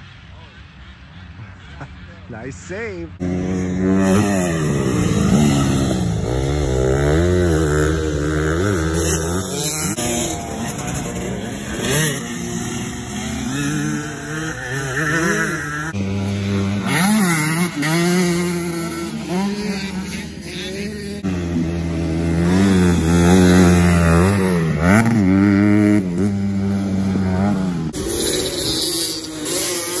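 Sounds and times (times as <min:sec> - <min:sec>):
dirt bike engine revving: 0:02.4 - 0:30.0.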